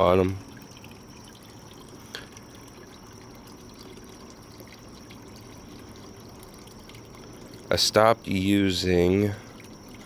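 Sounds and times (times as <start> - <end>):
small waterfall trickling: 0.0 - 10.0.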